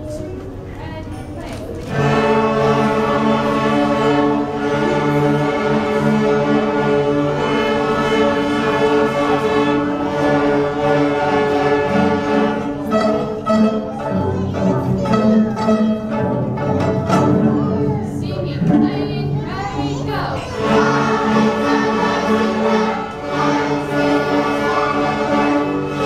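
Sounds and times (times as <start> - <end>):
string orchestra bowing: 1.8 - 26.0.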